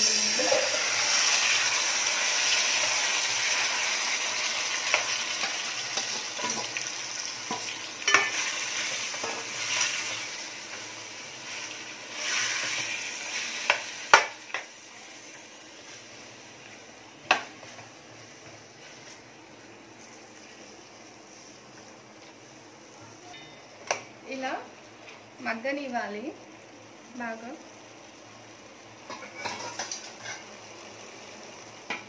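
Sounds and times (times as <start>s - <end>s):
chicken sizzling in hot oil: 0.0s - 23.1s, 24.3s - 32.0s.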